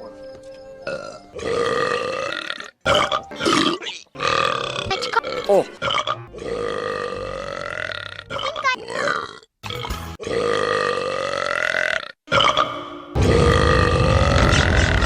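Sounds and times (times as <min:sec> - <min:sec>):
cartoon character burping: 0:00.9 - 0:15.0.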